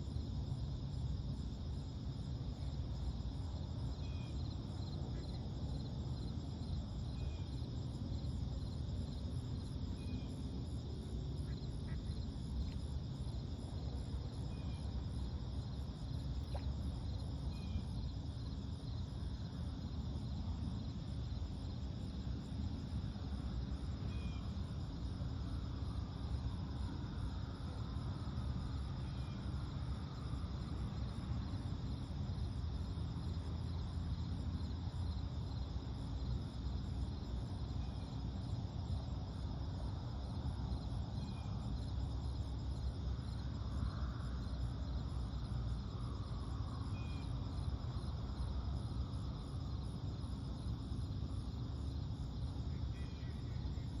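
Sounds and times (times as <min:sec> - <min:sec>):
crickets chirping: 0:00.0 - 0:54.0
steady low rumble: 0:00.0 - 0:54.0.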